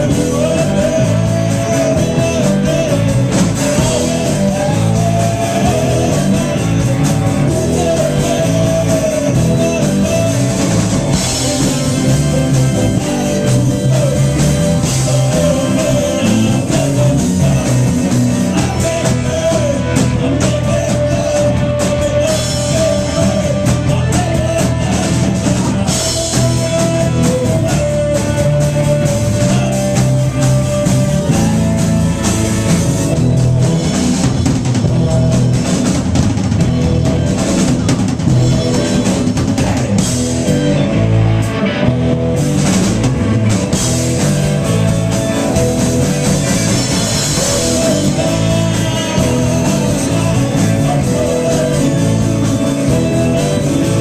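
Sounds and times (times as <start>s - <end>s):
held melody line: 0.0s - 54.0s
live rock band playing: 0.0s - 54.0s.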